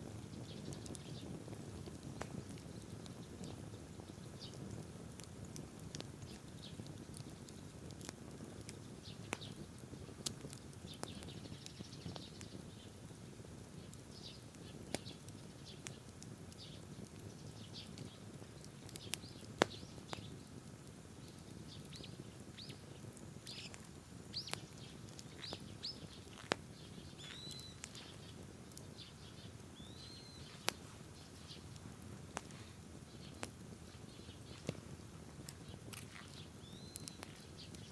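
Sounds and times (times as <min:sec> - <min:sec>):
bonfire crackling and popping: 0:00.0 - 0:37.9
small birds chirping: 0:00.0 - 0:37.9.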